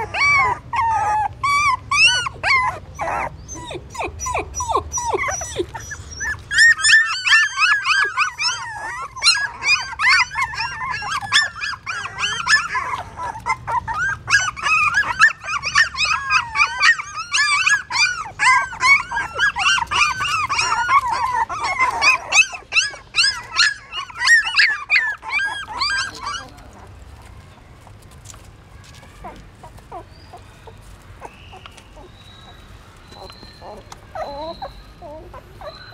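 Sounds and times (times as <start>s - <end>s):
puppies crying and whimpering: 0.0s - 35.9s.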